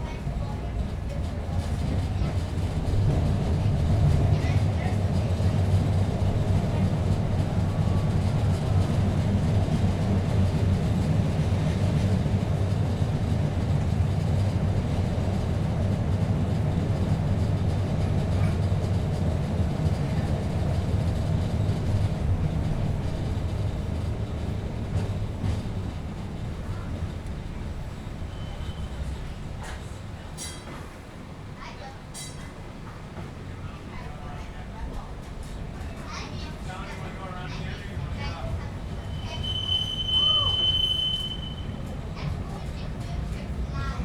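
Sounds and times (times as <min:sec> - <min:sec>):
streetcar wheels rumbling on rail: 0:00.0 - 0:44.0.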